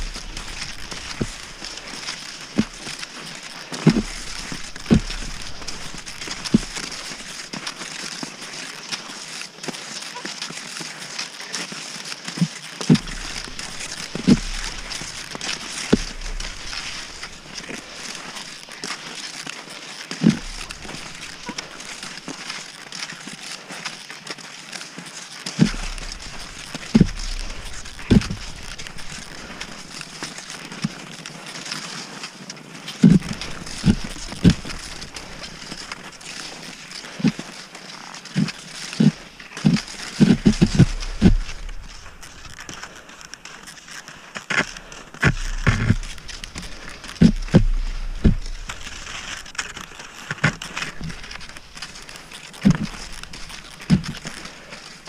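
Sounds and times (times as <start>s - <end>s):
skis scraping over snow: 0.0s - 55.0s.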